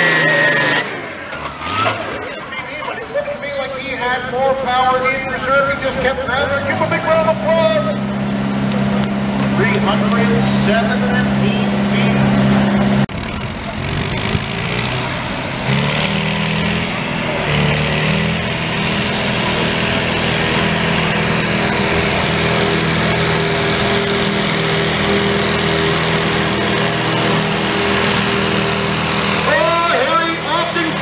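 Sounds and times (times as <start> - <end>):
tractor engine under heavy load: 0.0 - 31.0.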